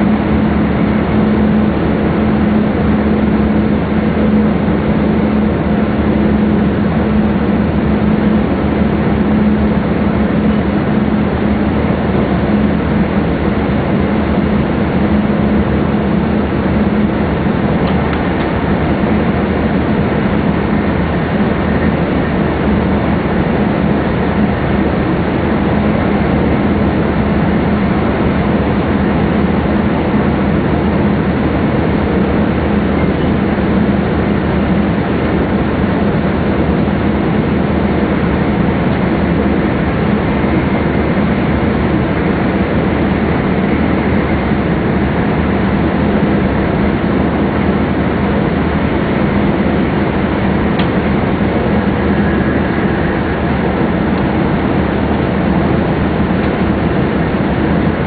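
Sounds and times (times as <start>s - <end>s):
constant low hum: 0.0s - 58.0s
train running at speed: 0.0s - 58.0s.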